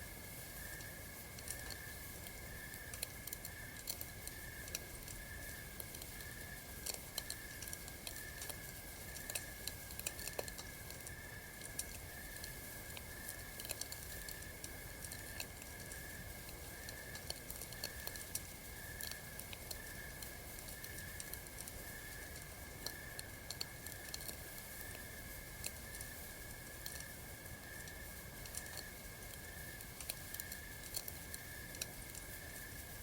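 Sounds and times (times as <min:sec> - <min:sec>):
campfire crackling: 0:00.1 - 0:33.0.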